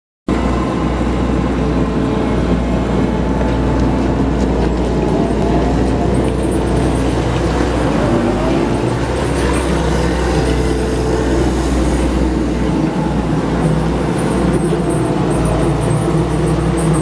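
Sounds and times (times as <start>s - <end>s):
combine harvester engines rumbling: 0.3s - 17.0s.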